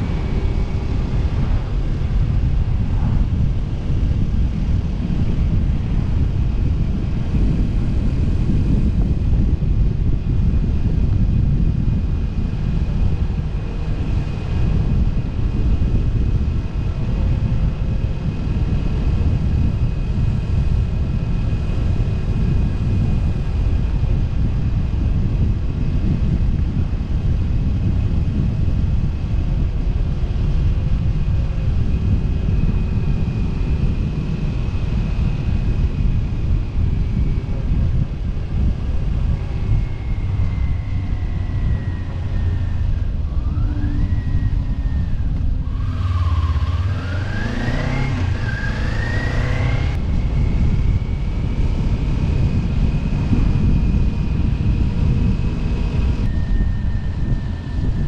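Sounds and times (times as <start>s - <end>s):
motorcycle engine cruising: 0.0s - 58.0s
wind rushing on microphone: 0.0s - 58.0s.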